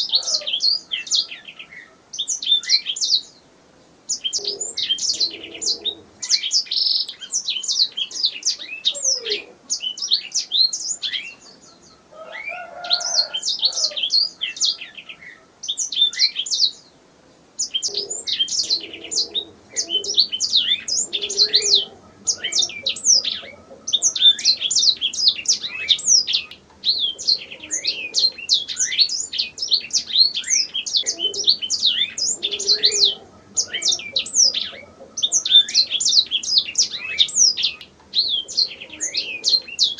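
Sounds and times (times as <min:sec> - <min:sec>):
canary singing: 0:00.0 - 0:03.4, 0:04.1 - 0:16.9, 0:17.6 - 0:39.9.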